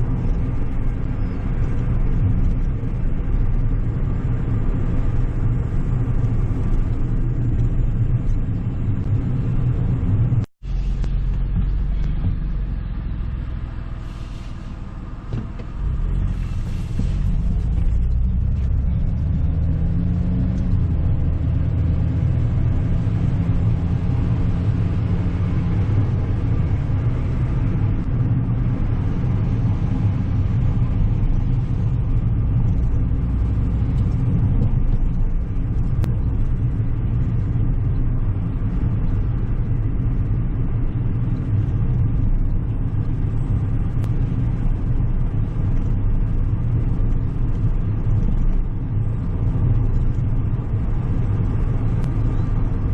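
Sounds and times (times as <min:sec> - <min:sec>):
car engine and tyre rumble: 0:00.0 - 0:52.9
faint engine hum: 0:00.0 - 0:52.9.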